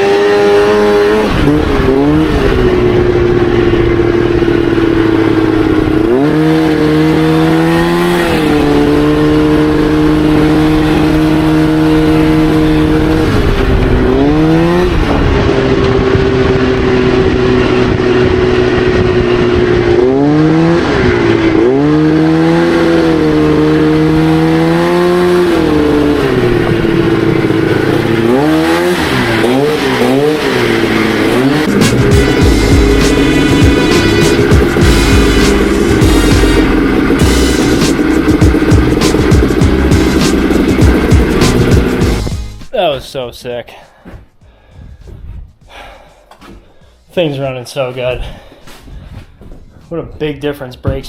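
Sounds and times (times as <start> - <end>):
buggy engine revving: 0.0 - 43.2.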